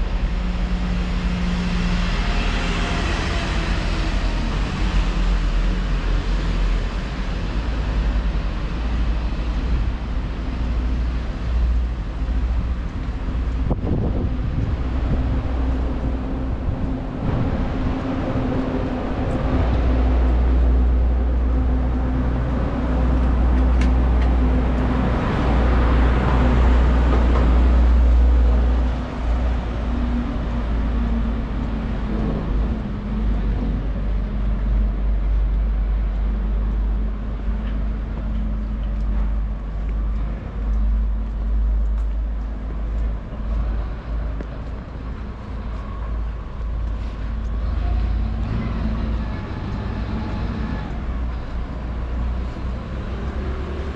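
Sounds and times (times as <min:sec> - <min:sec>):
low traffic rumble: 0:00.0 - 0:53.9
vehicles passing: 0:00.0 - 0:53.9.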